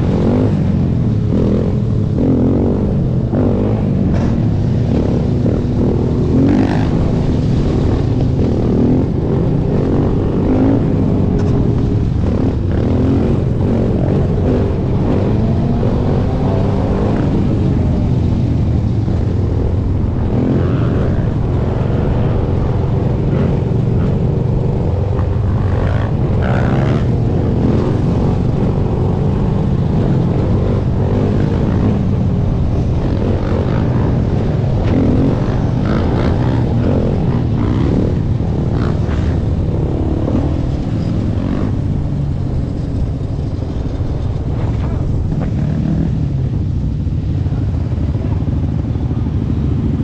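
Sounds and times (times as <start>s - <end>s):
other dirt bike engines: 0.0s - 50.0s.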